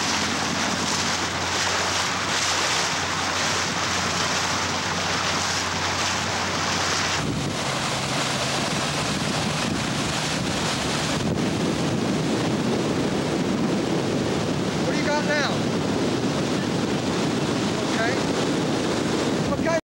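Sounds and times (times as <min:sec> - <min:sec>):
water rushing past hull: 0:00.0 - 0:19.8
wind on microphone: 0:00.0 - 0:19.8.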